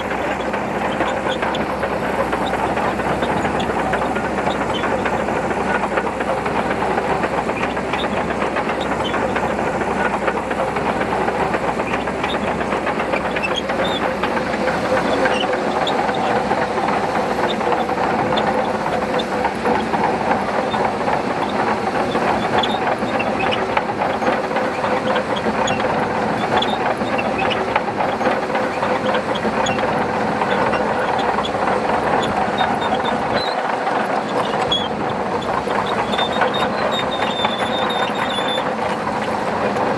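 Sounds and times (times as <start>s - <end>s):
bulldozer diesel engine: 0.0s - 39.9s
steel tracks clattering: 0.0s - 39.9s.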